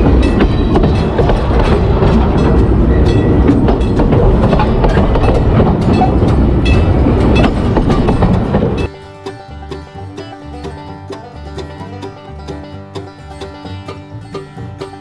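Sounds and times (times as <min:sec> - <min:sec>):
train rumbling along track: 0:00.0 - 0:15.0
wheels clicking over rail joints: 0:00.0 - 0:15.0.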